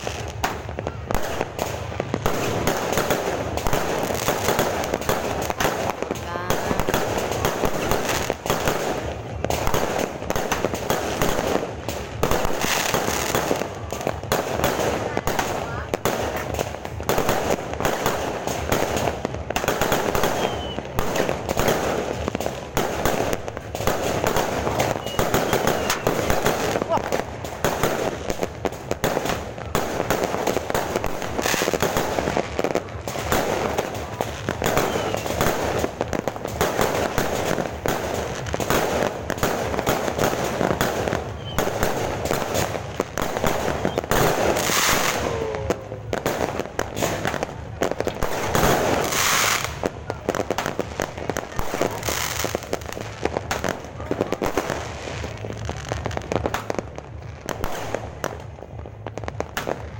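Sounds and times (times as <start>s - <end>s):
fireworks and firecrackers banging: 0.0s - 59.9s.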